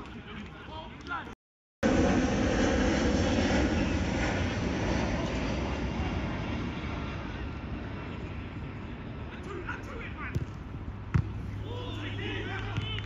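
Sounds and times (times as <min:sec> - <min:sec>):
aircraft engines passing overhead: 0:00.0 - 0:13.0.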